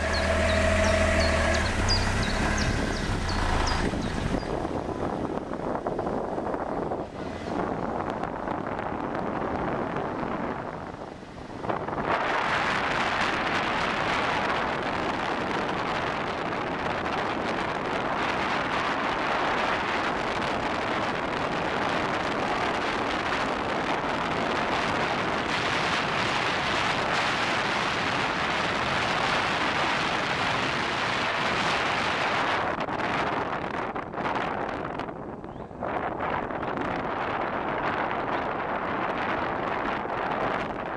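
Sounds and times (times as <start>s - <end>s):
car tyre and wind noise: 0.0s - 40.9s
wind buffeting microphone: 0.0s - 40.9s.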